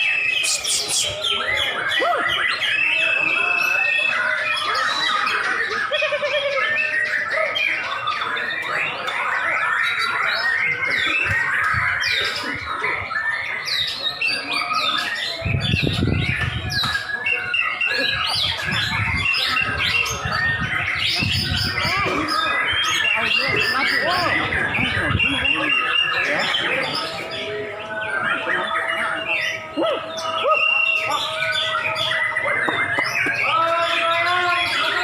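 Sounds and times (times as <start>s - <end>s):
birds singing chirps and trills: 0.0s - 35.0s.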